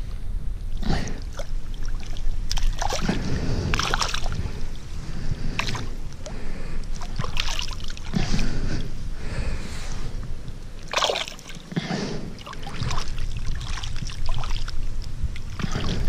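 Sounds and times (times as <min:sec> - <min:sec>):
water sloshing and splashing: 0:00.7 - 0:16.0.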